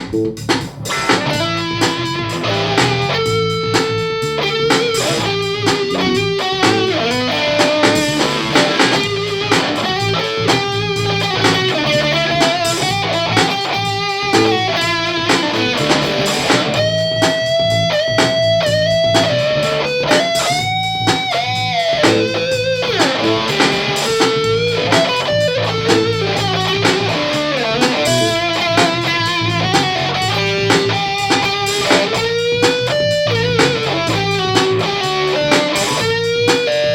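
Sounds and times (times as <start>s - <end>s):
distorted electric guitar lead: 0.0s - 36.9s.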